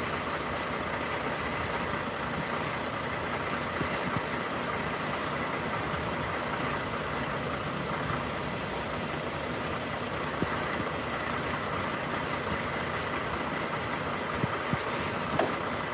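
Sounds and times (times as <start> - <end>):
truck engine running: 0.0 - 15.9.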